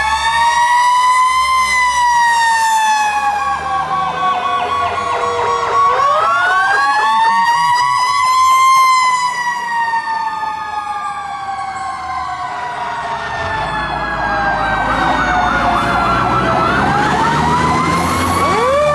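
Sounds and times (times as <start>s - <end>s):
electronic siren yelping: 0.0s - 18.9s
truck engine rumbling: 3.2s - 18.9s.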